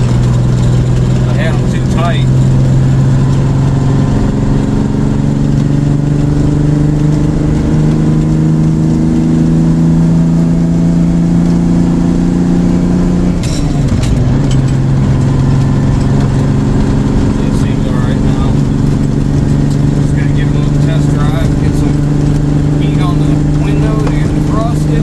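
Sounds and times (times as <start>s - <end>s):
gear change clicks: 0.0s - 9.1s, 12.7s - 25.0s
diesel truck engine under load: 0.0s - 25.0s.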